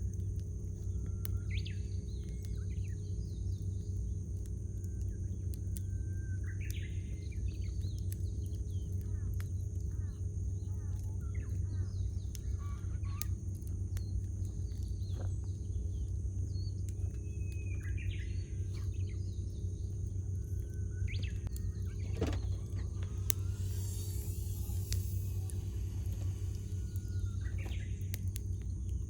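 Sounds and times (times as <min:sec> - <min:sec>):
campfire crackling and popping: 0:00.0 - 0:29.0
small birds chirping: 0:00.0 - 0:29.0.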